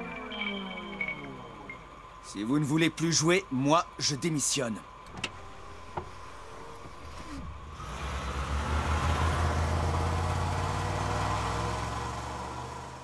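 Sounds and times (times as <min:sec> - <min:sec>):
car engine rumbling: 0:00.0 - 0:13.0
road noise: 0:00.0 - 0:13.0.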